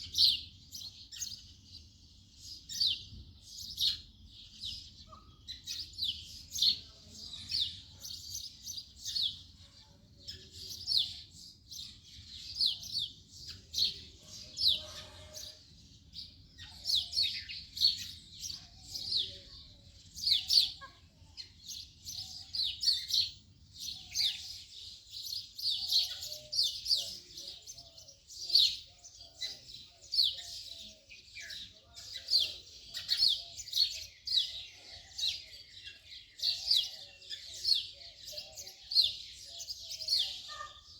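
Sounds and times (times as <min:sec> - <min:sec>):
sparrows chirping: 0:00.0 - 0:40.9.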